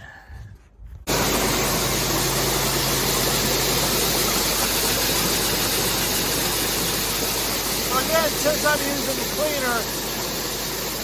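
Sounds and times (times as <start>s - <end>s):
grain auger and cleaner rushing: 1.1s - 11.0s.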